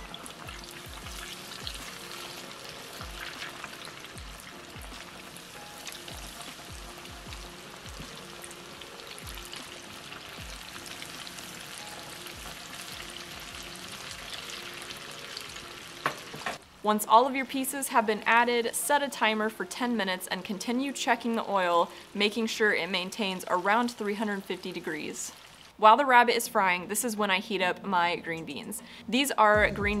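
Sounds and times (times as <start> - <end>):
food deep-frying in oil: 0.0 - 19.9, 20.6 - 25.8.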